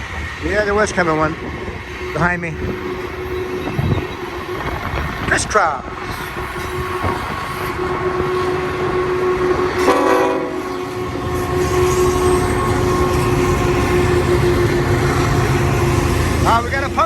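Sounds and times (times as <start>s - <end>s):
freight train rumbling past: 0.0s - 17.0s
train horn blast: 1.8s - 17.0s.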